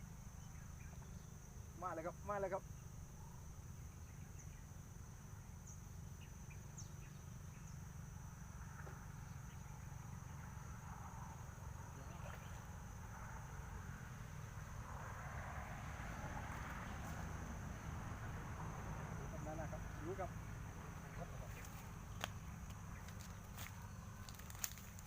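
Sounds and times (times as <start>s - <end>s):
insects buzzing: 0.0s - 25.0s.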